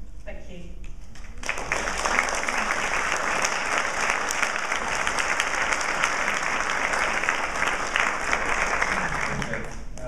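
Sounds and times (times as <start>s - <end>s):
audience applauding: 1.3s - 10.0s.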